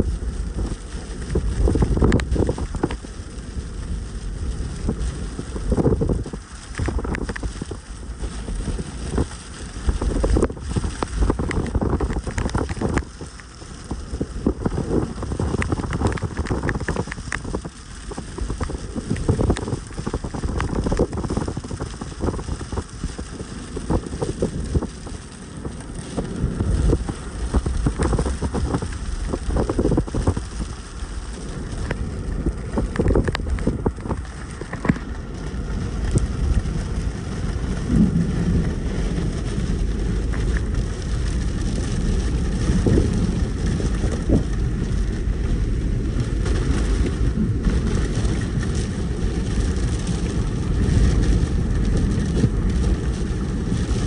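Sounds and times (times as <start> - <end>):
rain falling: 0.0 - 54.0
wind buffeting microphone: 0.0 - 54.0.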